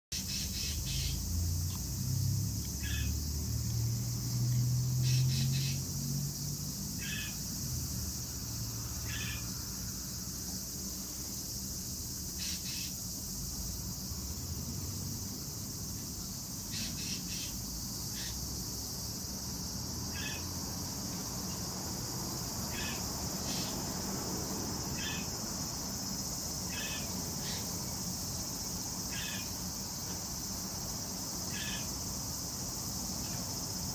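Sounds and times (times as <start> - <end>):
crickets chirping: 0.1 - 33.9.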